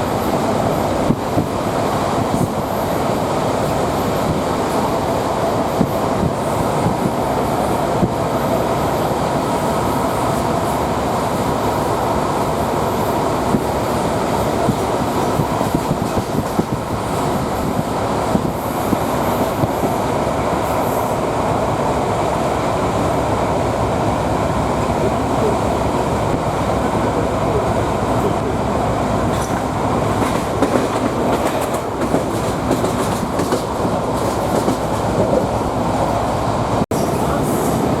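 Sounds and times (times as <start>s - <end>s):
train rumble: 0.0s - 38.0s.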